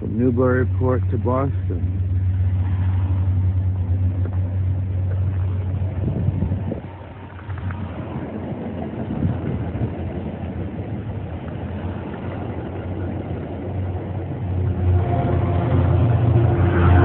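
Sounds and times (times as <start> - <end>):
train passing rumble: 0.0 - 17.0.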